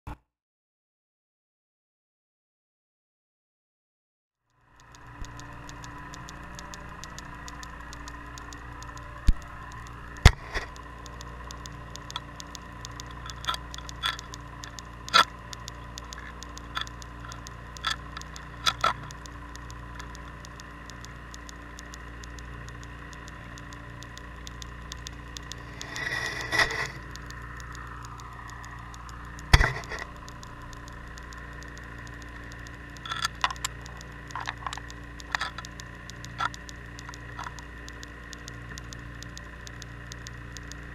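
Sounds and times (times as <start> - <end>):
sharp clicks and pops: 4.5 - 40.9
steady underwater hum: 4.5 - 40.9.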